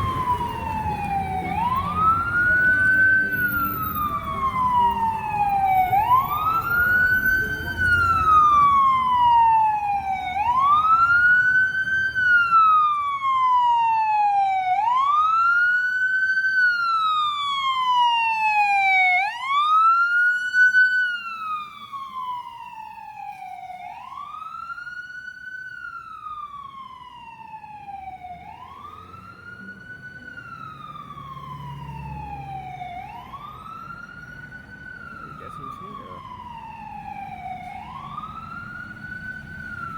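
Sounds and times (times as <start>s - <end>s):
emergency siren wailing: 0.0s - 39.9s.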